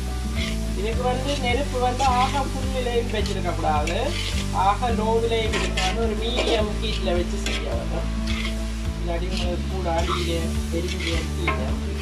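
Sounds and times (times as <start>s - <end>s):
background music with beat: 0.0s - 12.0s
stir-fry sizzling: 0.0s - 12.0s
spatula scraping a pan: 0.2s - 12.0s.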